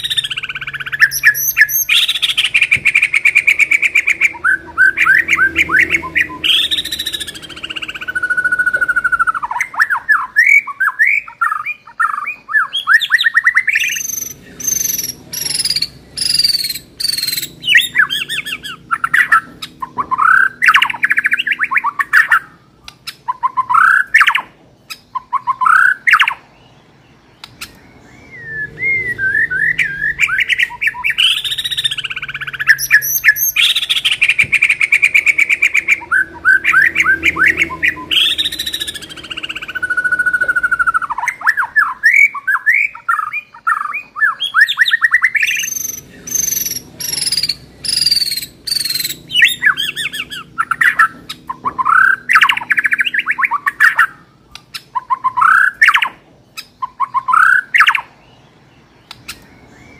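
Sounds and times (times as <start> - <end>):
bird singing whistles and trills: 0.0 - 59.9.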